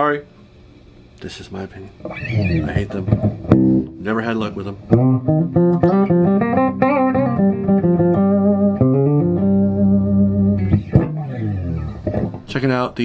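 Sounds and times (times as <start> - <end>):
electric guitar notes: 2.0 - 12.5.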